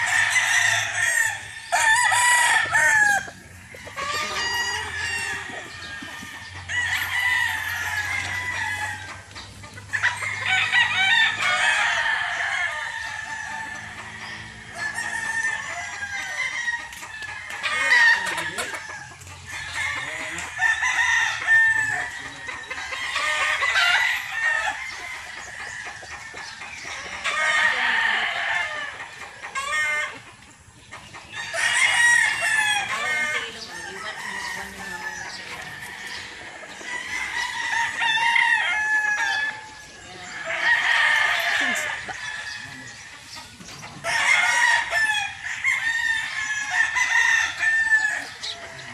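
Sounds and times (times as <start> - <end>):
chickens clucking: 0.0 - 48.9
roosters crowing: 0.0 - 48.9.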